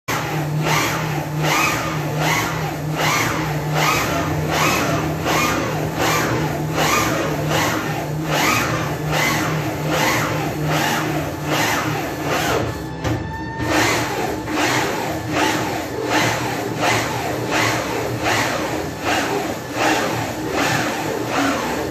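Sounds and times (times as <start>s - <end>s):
actuator whirring over low hum: 0.1s - 21.9s.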